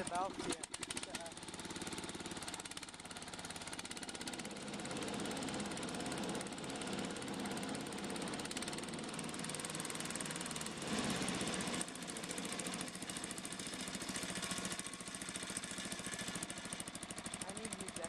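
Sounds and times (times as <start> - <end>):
riding mower engine idling: 0.0 - 18.0.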